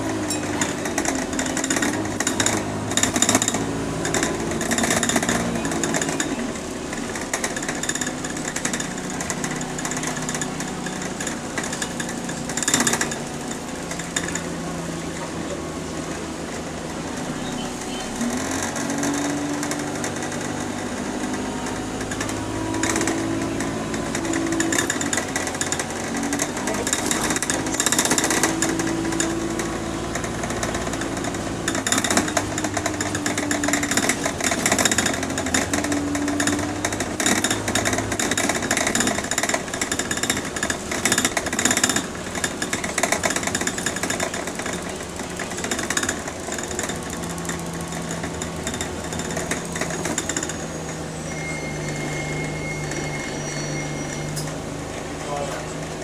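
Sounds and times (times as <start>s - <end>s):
interior panels rattling: 0.0s - 52.6s
bus engine changing gear: 0.0s - 56.0s.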